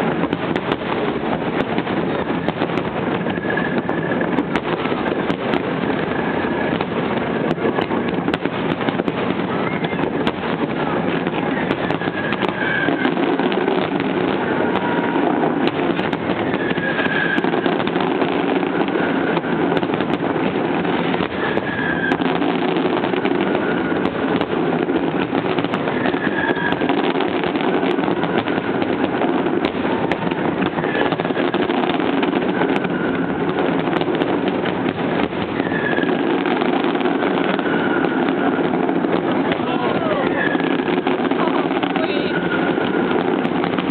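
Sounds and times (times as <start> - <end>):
fireworks bursting and crackling: 0.0 - 43.9
sharp firework cracks: 0.0 - 43.9.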